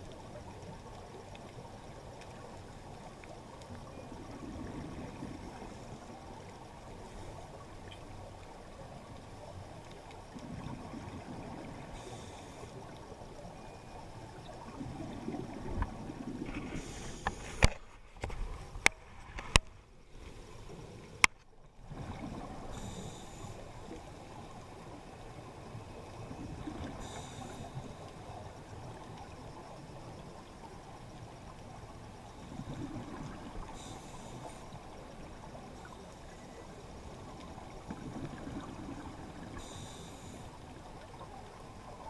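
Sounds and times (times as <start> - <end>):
underwater rush of water: 0.0 - 42.0.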